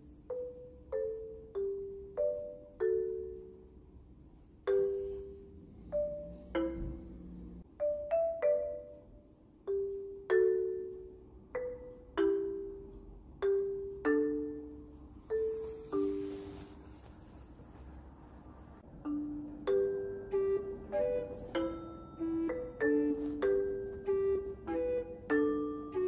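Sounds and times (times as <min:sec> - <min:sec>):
slow marimba melody: 0:00.0 - 0:04.0, 0:04.6 - 0:17.1, 0:18.8 - 0:26.0.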